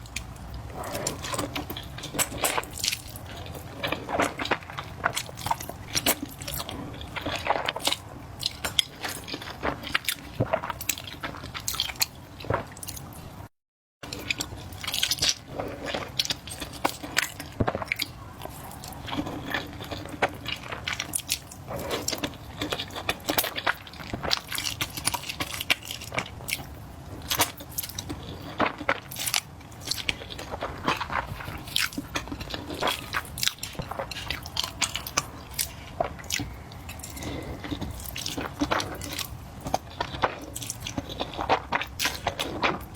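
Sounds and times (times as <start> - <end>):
close chewing and mouth sounds: 0.0 - 42.9.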